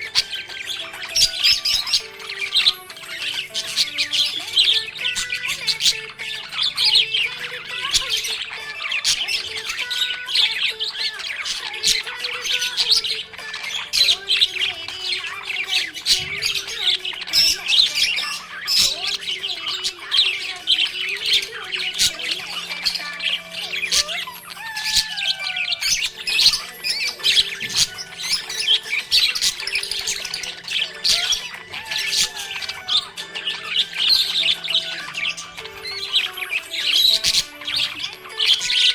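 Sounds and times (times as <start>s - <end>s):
budgerigars chirping and squawking: 0.0s - 38.9s.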